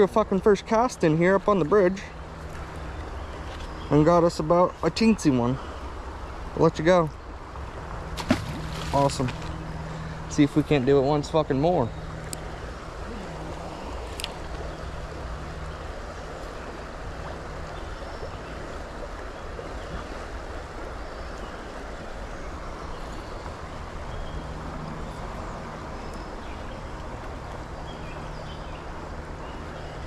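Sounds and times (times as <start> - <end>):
flowing creek water: 0.0 - 30.0.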